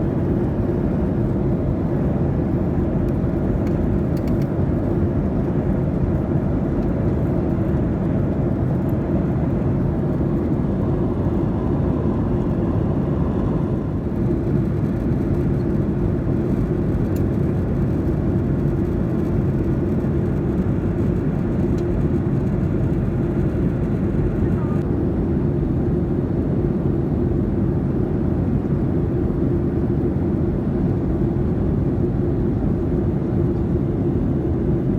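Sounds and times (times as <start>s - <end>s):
airplane cabin engine rushing noise: 0.0s - 34.9s.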